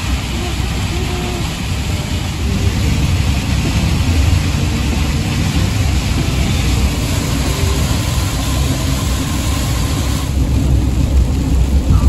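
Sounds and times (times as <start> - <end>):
engine and road rumble: 0.0 - 12.0
rain and wet tyres hiss: 0.0 - 12.0.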